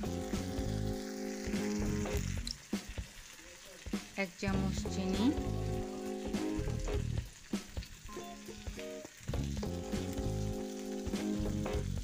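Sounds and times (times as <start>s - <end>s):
background music with held notes: 0.0s - 12.0s
food sizzling in oil: 0.0s - 12.0s.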